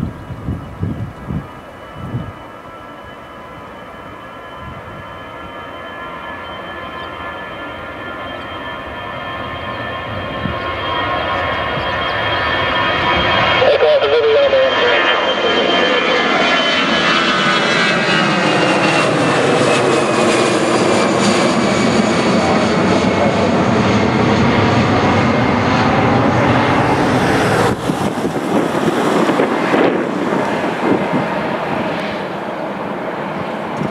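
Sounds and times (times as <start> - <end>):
high whining engine tones: 0.0 - 33.9
jet engines roaring overhead: 0.0 - 33.9.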